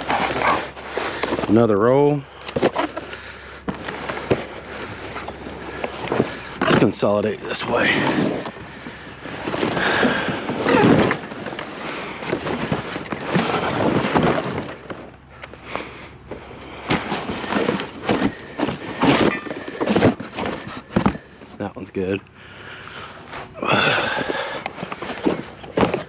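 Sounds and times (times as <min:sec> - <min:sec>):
scrap rustling and scraping: 0:00.0 - 0:01.8, 0:02.4 - 0:15.2, 0:16.3 - 0:21.6, 0:22.8 - 0:26.0.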